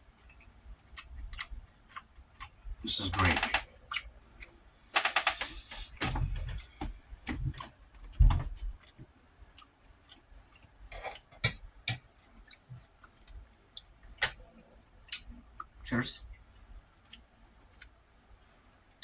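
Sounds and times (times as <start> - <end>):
person chewing food: 0.2 - 2.6, 3.8 - 7.8, 8.8 - 19.0.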